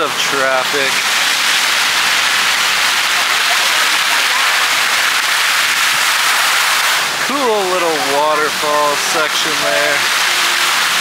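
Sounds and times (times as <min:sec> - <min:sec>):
fountain water splashing into pool: 0:00.0 - 0:11.0.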